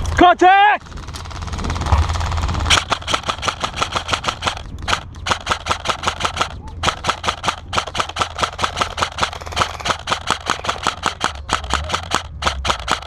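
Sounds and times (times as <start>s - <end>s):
airsoft guns firing automatic: 0.1s - 13.0s.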